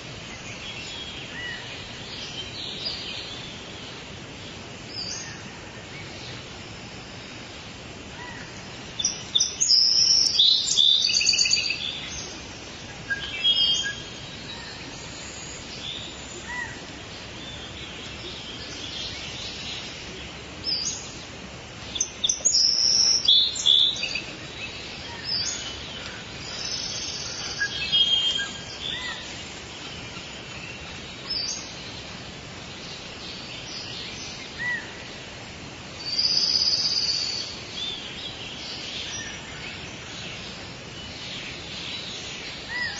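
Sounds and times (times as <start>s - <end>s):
birds singing and chirping: 0.0s - 7.4s, 8.1s - 42.9s
forest ambience hiss: 0.0s - 42.9s.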